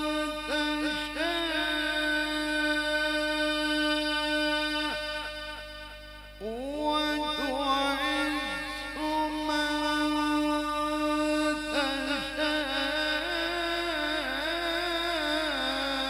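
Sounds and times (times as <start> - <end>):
man reciting melodically over loudspeakers: 0.0 - 16.0.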